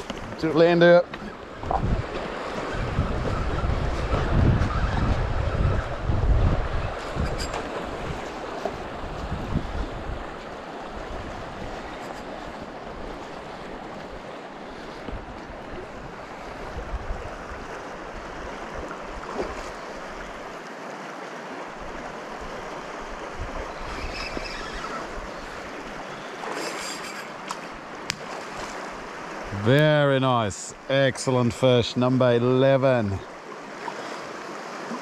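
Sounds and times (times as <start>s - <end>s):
river water flowing: 0.0s - 35.0s.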